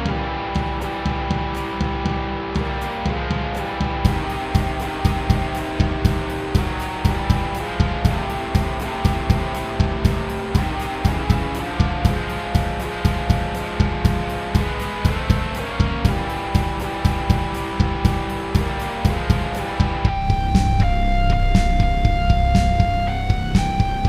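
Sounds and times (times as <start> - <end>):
instrumental music with held chords: 0.0 - 24.0
steady low beat: 0.0 - 24.0.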